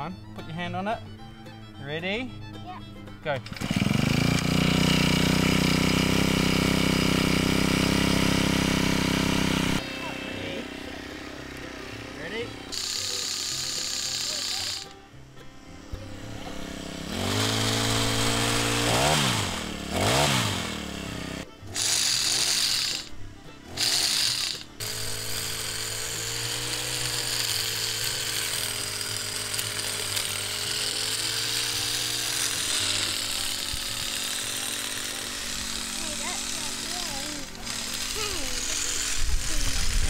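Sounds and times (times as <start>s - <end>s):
hedge trimmer engine revving: 3.1s - 40.0s.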